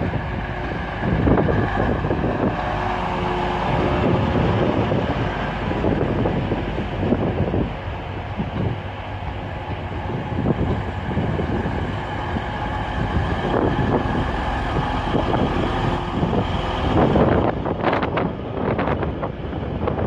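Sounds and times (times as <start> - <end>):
train diesel engines running: 0.0 - 20.0
train wheels on rails: 0.0 - 20.0.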